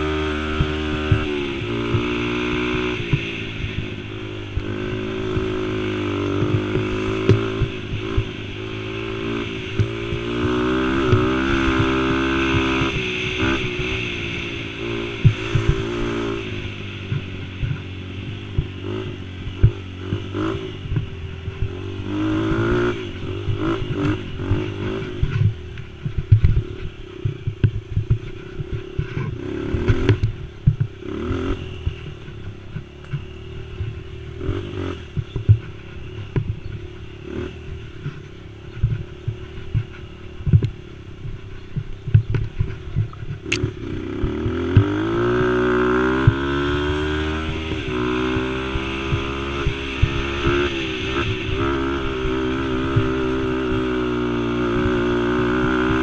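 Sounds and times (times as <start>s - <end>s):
quad engine revving: 0.0s - 27.3s, 28.3s - 36.3s, 42.3s - 56.0s.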